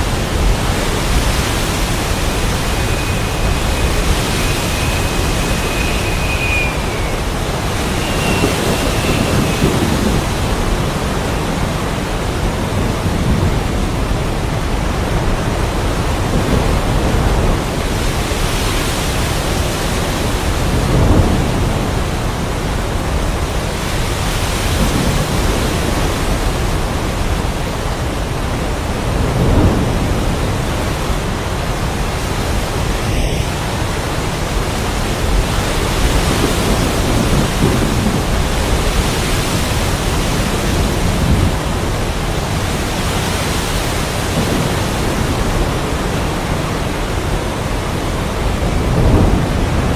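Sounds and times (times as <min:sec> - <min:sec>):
heavy rain: 0:00.0 - 0:49.9
thunder rumbling: 0:00.0 - 0:49.9.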